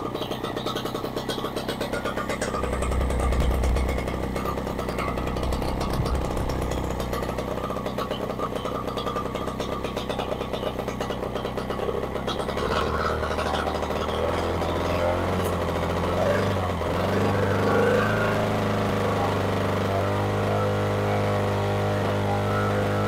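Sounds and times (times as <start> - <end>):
two-stroke engine running: 0.0 - 23.0.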